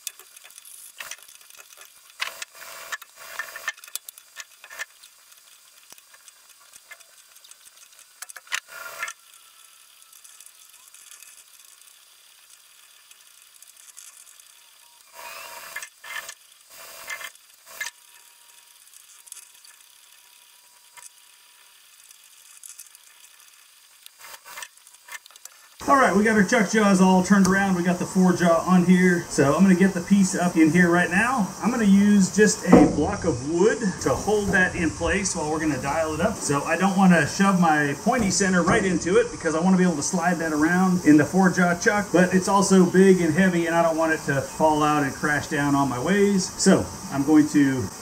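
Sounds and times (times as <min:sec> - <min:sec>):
faint hiss: 0:00.0 - 0:48.0.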